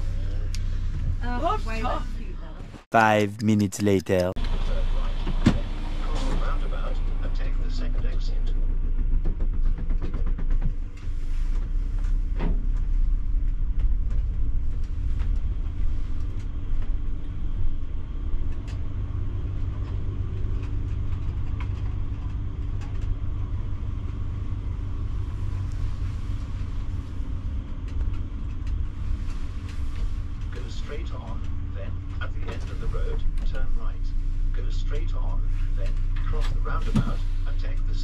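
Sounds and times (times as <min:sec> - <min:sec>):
diesel engine rumble: 0:00.0 - 0:38.0.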